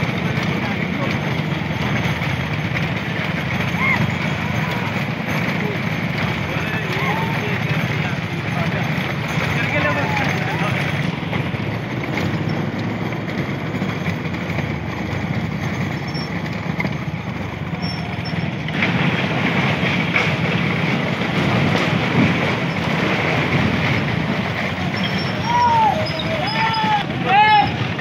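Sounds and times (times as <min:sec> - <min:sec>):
motorcycle engines running: 0:00.0 - 0:28.0
wooden cart wheels clattering: 0:00.0 - 0:28.0.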